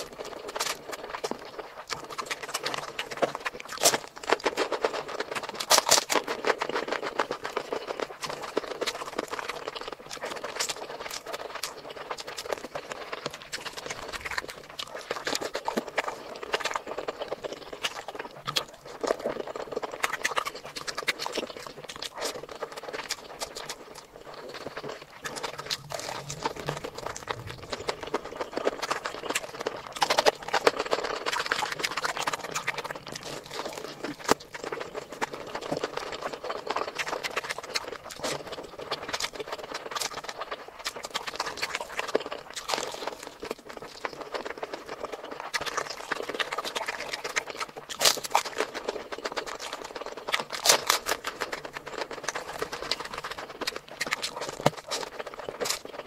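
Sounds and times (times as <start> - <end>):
wet chewing and lip smacking: 0.0 - 56.0.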